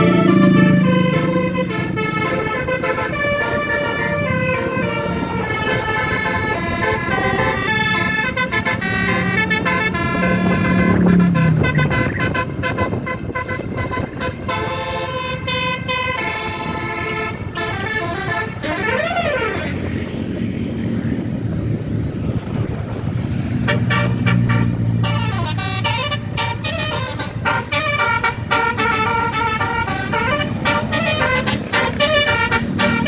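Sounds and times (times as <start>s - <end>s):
multi-tone musical bus horn: 0.0s - 20.1s, 23.6s - 33.0s.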